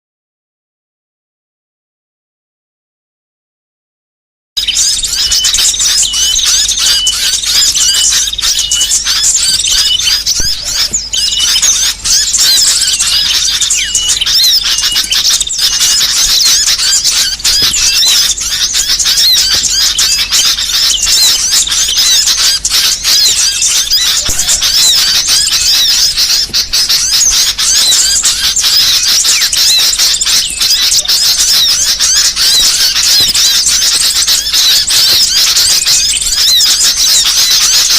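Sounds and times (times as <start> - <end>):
songbirds chirping: 4.6 - 37.9.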